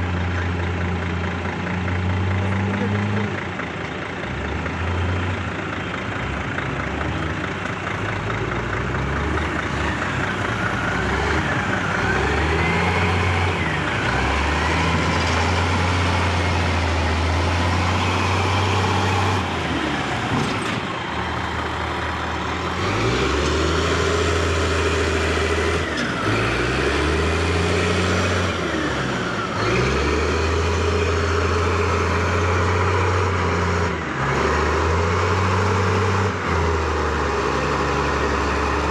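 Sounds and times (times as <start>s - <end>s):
diesel engine revving up and down: 0.0s - 38.9s.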